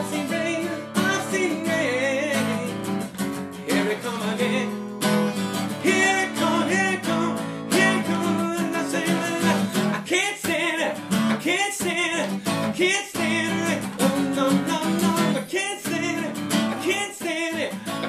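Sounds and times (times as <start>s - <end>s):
acoustic guitar strumming: 0.0s - 18.0s
person singing wordlessly: 0.0s - 18.0s.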